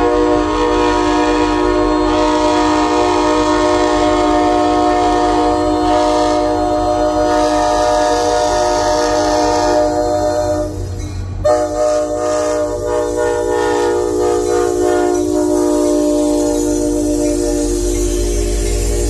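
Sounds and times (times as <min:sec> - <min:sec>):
locomotive air horn: 0:00.0 - 0:10.8, 0:11.4 - 0:19.0.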